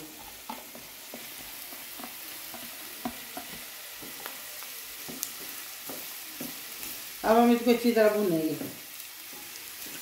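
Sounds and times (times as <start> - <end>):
chicken sizzling in pan: 0.0 - 10.0.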